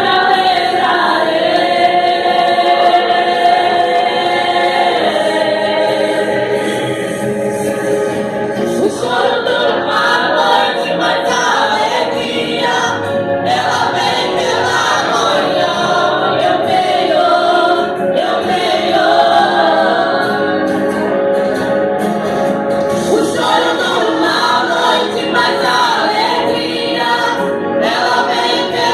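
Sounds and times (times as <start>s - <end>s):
group singing in chorus: 0.0s - 28.9s.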